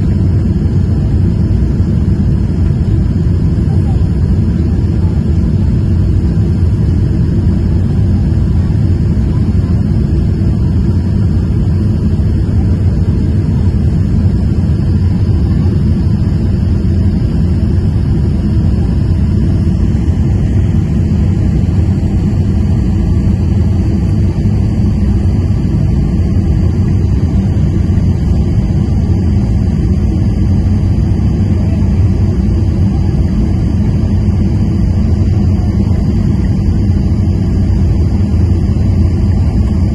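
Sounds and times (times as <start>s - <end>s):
airliner engines and airflow rush: 0.0s - 39.9s.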